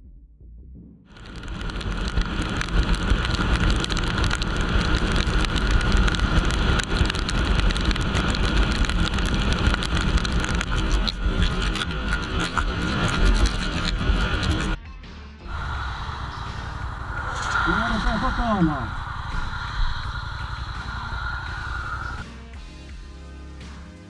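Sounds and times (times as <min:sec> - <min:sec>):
motorcycle low rumble: 0:00.0 - 0:14.8, 0:15.5 - 0:22.2
rain and spray hissing: 0:01.1 - 0:14.8, 0:15.5 - 0:22.2
wind rushing over microphone: 0:01.2 - 0:14.8, 0:15.5 - 0:22.2.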